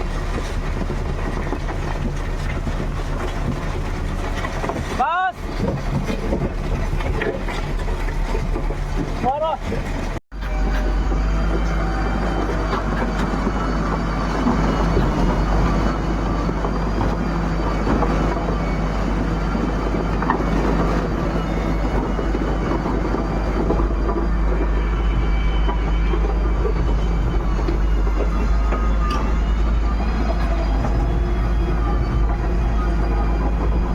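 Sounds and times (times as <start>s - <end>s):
heavy engine rumbling: 0.0s - 33.9s.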